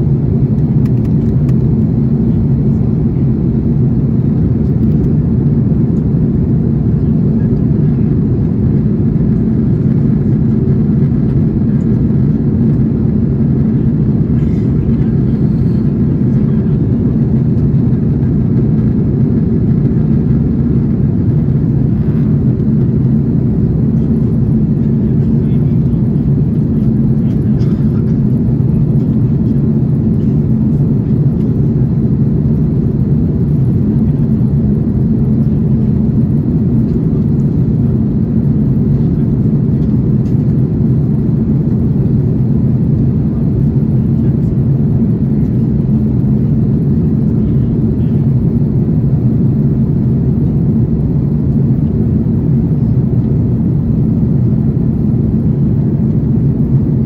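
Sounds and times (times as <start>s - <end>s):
aircraft cabin engine rumble: 0.0s - 57.0s
constant low hum: 0.0s - 57.0s.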